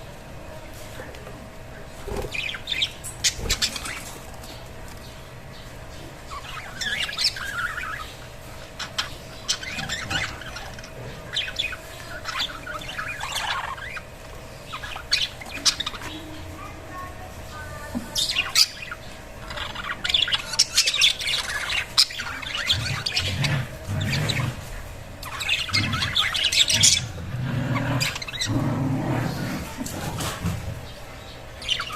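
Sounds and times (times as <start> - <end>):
budgerigars chirping and warbling: 2.0 - 31.9.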